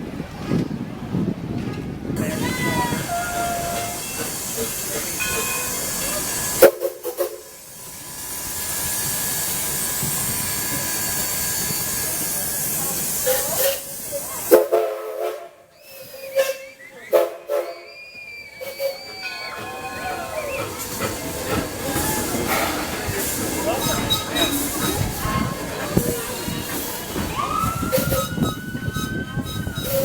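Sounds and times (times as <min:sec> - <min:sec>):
steam hissing from locomotive: 0:02.1 - 0:30.0.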